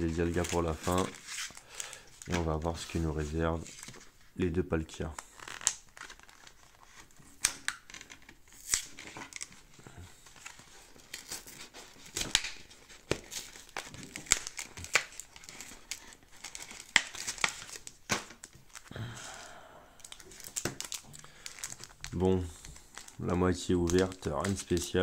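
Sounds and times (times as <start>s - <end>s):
foil wrapper crinkling and tearing: 0.0s - 3.0s, 5.1s - 18.9s, 20.0s - 25.0s.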